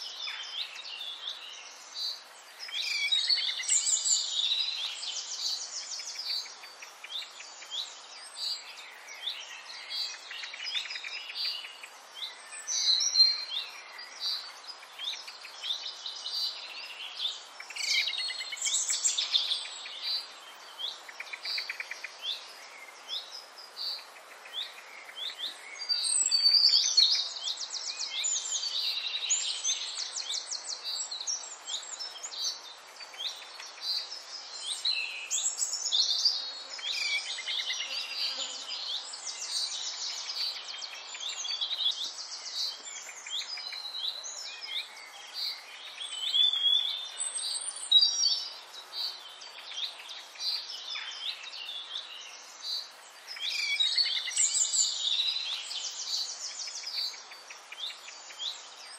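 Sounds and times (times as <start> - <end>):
birds chirping and singing: 0.1 - 58.9.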